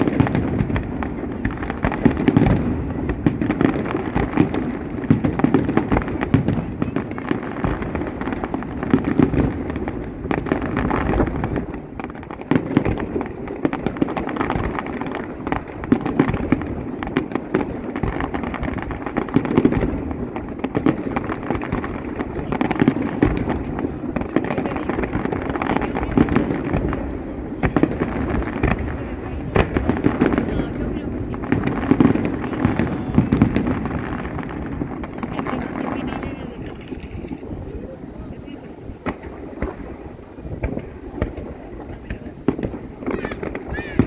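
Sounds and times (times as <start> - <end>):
fireworks bangs and crackling: 0.0 - 44.0
loud firework booms: 0.0 - 44.0.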